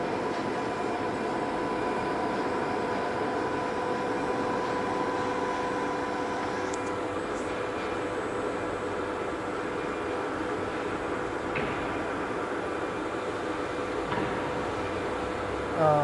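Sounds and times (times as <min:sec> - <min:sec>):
machinery humming with a whine: 0:00.0 - 0:16.0.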